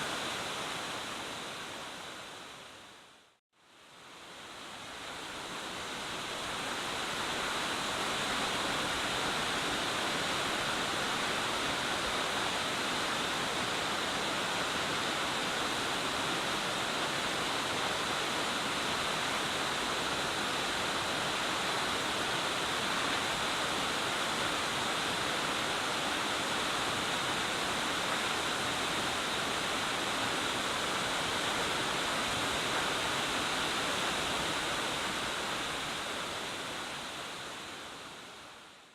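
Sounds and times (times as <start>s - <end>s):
waterfall rushing: 4.6s - 38.4s.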